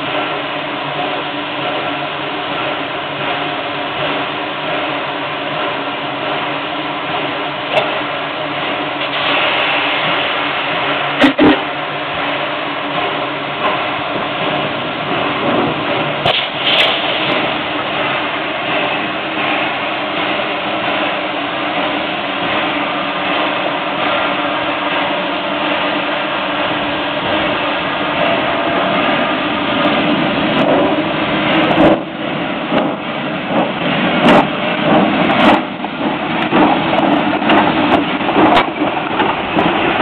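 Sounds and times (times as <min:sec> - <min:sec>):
steam locomotive running: 0:00.0 - 0:40.0.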